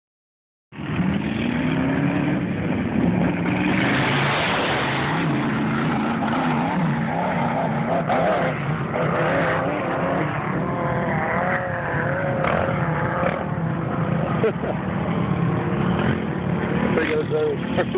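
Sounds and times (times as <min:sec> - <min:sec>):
off-road vehicle engines revving: 0:00.8 - 0:17.9.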